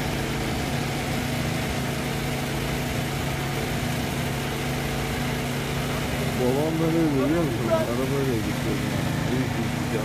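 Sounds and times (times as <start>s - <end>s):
engine running with low hum: 0.0s - 10.0s.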